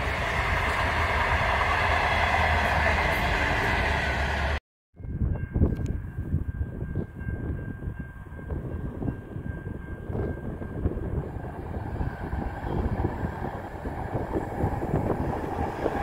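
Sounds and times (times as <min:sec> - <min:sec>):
diesel freight train rumble: 0:00.0 - 0:16.0
wind buffeting microphone: 0:00.0 - 0:16.0.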